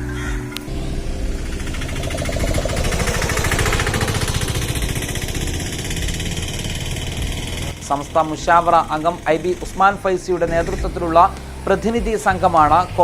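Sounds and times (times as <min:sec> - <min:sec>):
engine with pulsing knock: 0:00.7 - 0:13.0.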